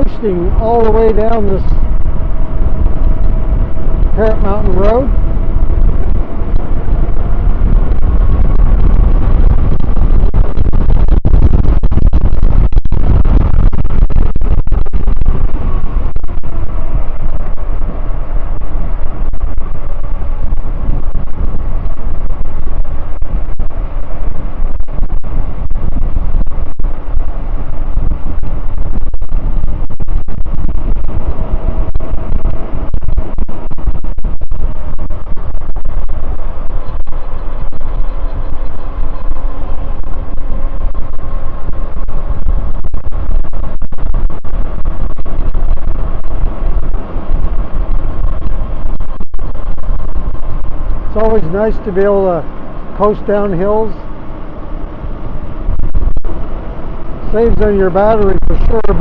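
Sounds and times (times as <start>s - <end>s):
faint hum: 0.0s - 59.0s
tyre road noise: 0.0s - 59.0s
wind buffeting microphone: 0.0s - 59.0s.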